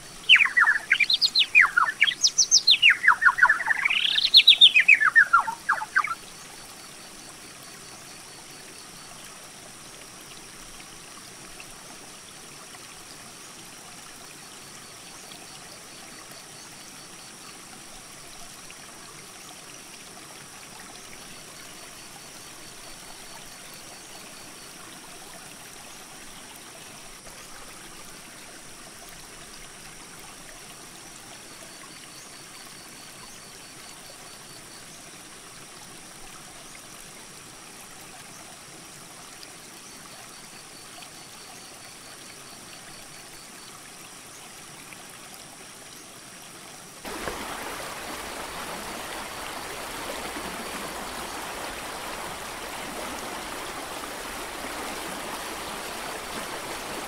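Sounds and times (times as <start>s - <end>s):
rushing mountain creek: 0.0s - 57.0s.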